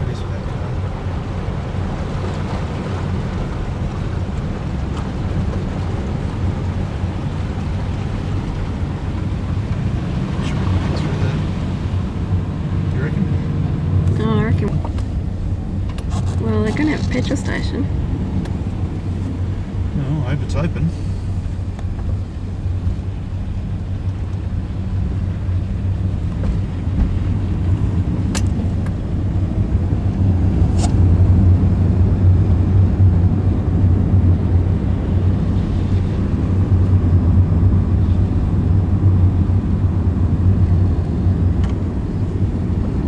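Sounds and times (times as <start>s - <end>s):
car interior road rumble: 0.0s - 43.0s.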